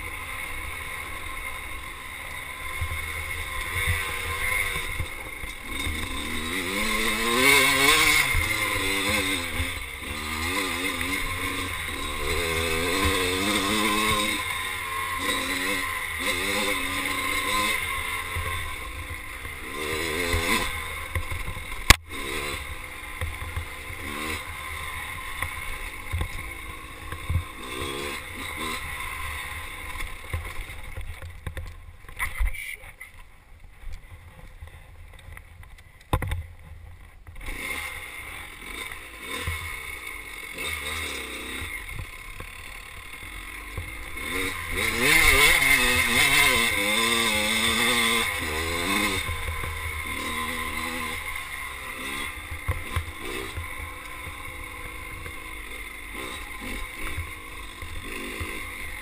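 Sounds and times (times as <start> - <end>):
dirt bike engine revving: 0.0 - 32.3, 37.2 - 59.0.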